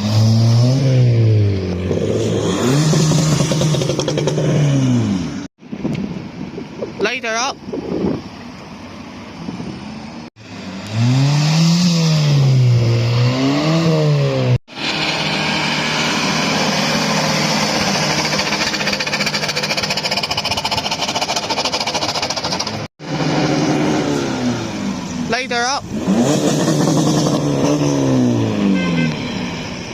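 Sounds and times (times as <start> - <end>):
car engines revving hard: 0.0 - 5.5, 10.4 - 29.6.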